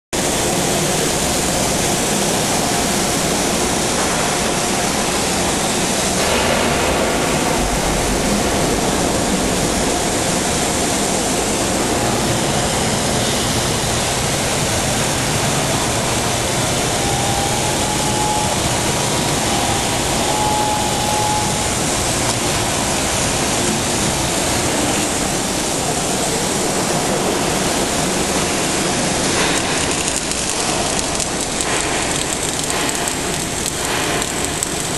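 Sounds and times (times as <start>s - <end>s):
welding arc hissing: 0.2s - 34.9s.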